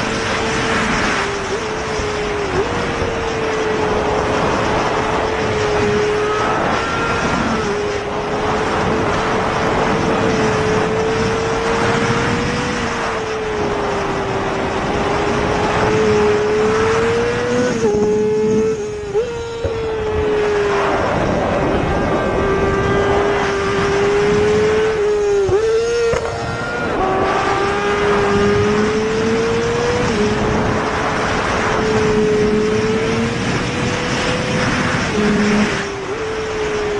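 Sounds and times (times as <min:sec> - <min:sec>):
high revving motorcycle engine: 0:00.0 - 0:36.9
fainter engine notes: 0:01.4 - 0:36.9.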